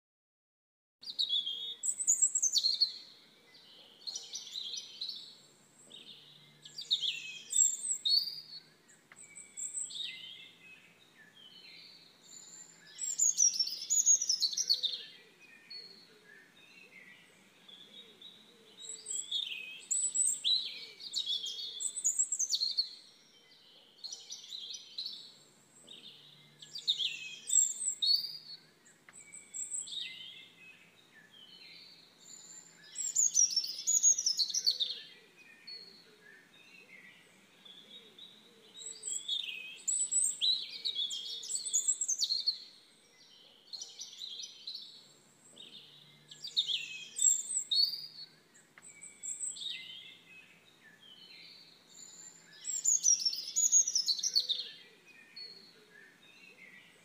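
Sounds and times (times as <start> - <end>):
songbirds singing: 1.0 - 57.0.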